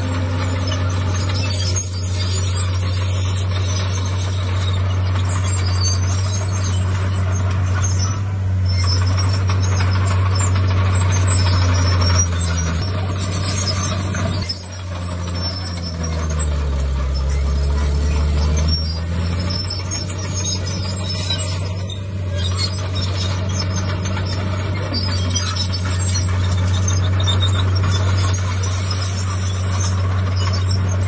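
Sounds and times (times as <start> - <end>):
diesel machinery engine hum: 0.0 - 31.0.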